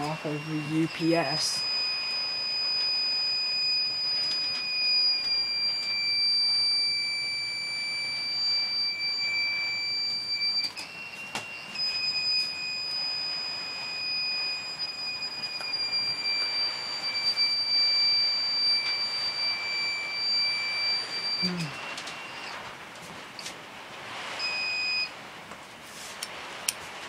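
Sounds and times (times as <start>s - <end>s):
high-pitched alarm buzzer: 0.0s - 22.6s.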